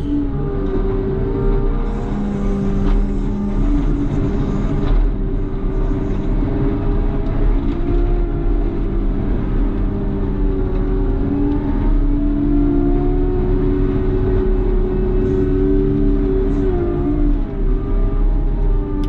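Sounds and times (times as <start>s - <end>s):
loader diesel engine running: 0.0s - 19.0s.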